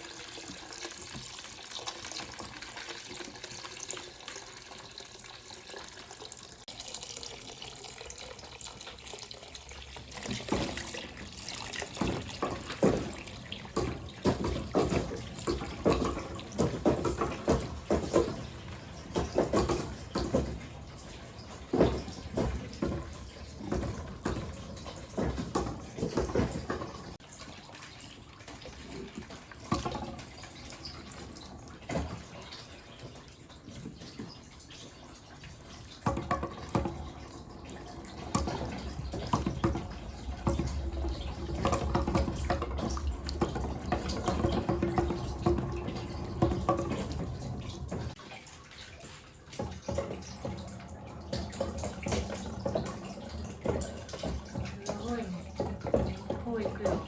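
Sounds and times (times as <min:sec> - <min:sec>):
water running down chute: 0:00.0 - 0:57.0.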